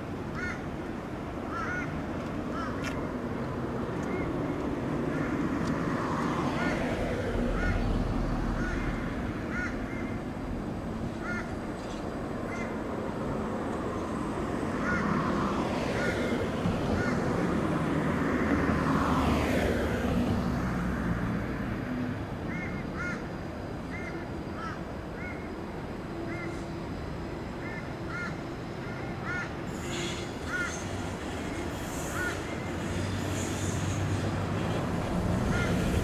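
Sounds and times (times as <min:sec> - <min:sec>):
steady outdoor rumble: 0:00.0 - 0:36.0.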